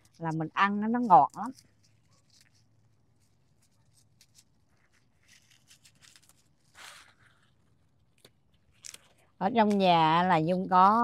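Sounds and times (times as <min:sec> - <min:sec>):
leaves rustling and snapping: 0:00.0 - 0:07.4, 0:08.1 - 0:11.0.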